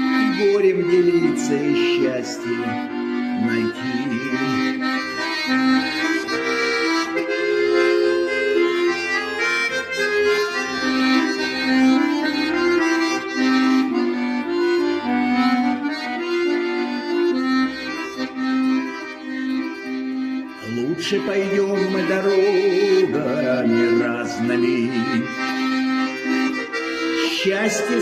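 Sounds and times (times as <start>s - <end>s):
accordion playing a melody: 0.0s - 28.0s.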